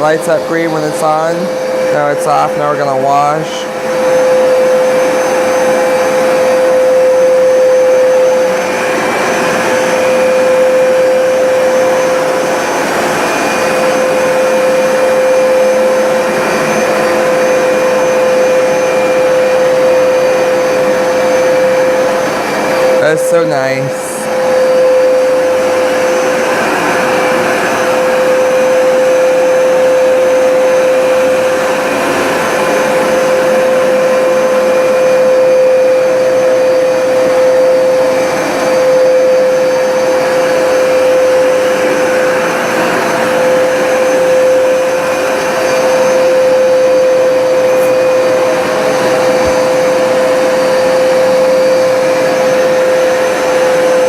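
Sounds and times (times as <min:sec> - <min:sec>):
carpet cleaner motor hum: 0:00.0 - 0:54.0.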